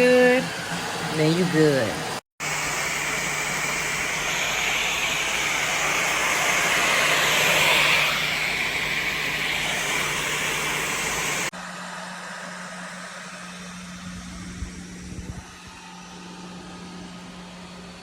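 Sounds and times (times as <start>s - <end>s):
blow dryer running: 0.0s - 18.0s.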